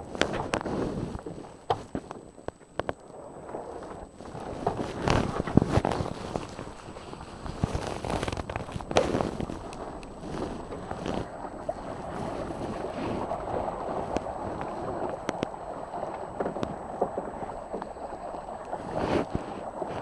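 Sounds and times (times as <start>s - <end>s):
wind on microphone: 2.8s - 20.0s.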